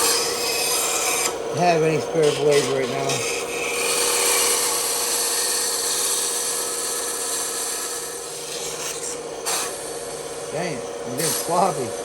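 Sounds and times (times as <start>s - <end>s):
bandsaw cutting wood: 0.0s - 12.0s
bandsaw motor hum: 0.0s - 12.0s.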